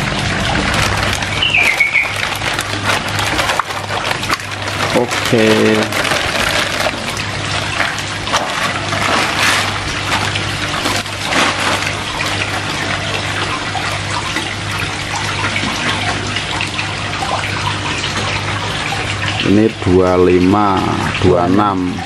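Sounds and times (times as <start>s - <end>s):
running water rushing: 0.0s - 22.0s
water splashing and sloshing: 0.0s - 22.0s.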